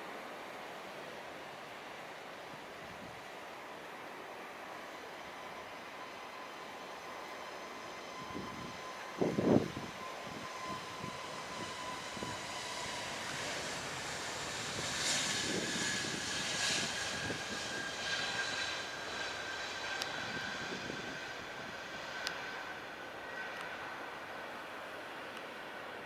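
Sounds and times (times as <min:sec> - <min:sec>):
jet engines at takeoff thrust: 0:00.0 - 0:26.0.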